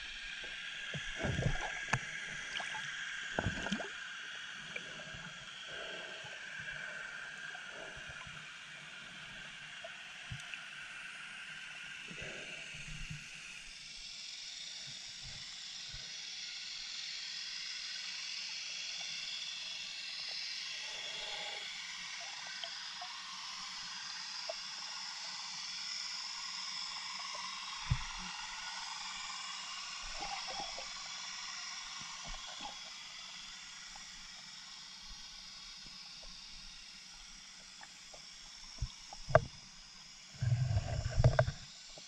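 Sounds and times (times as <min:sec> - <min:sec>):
underwater hiss: 0:00.0 - 0:42.0.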